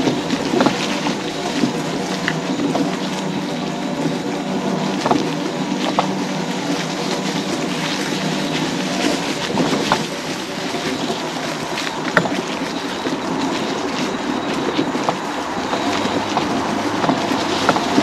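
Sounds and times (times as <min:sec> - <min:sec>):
scooter motor hum: 0:00.0 - 0:18.0
scooter rattling: 0:00.0 - 0:18.0.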